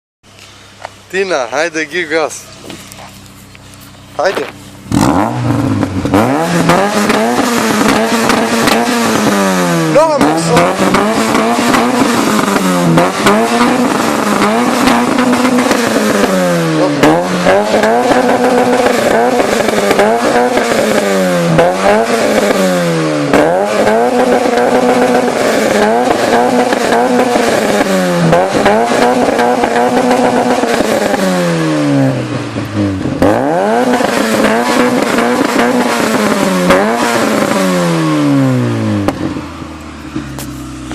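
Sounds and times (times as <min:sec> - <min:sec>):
car engine revving: 0:00.3 - 0:40.9.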